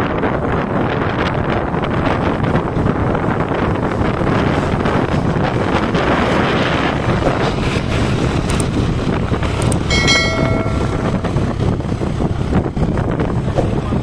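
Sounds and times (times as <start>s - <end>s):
vehicle road noise: 0.0s - 14.0s
wind buffeting microphone: 0.0s - 14.0s.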